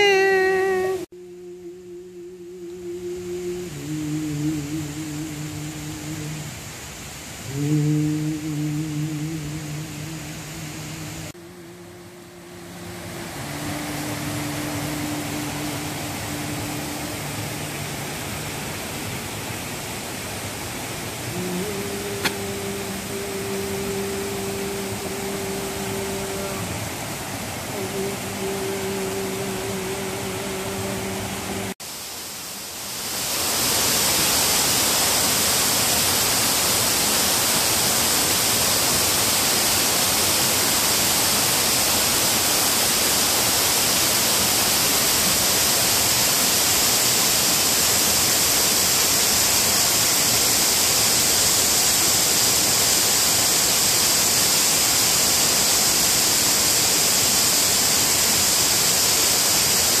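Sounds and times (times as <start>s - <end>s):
waterfall rushing over rocks: 0.0s - 60.0s.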